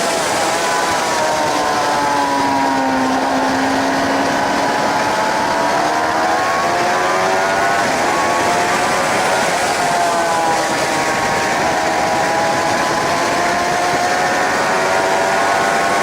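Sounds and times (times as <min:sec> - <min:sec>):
motorcycle engine accelerating: 0:00.0 - 0:16.0
wind rushing over microphone: 0:00.0 - 0:16.0.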